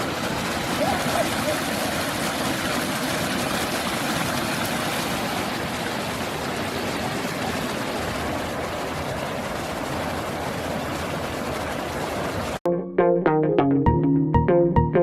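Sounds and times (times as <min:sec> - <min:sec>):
creek water rushing: 0:00.0 - 0:12.6.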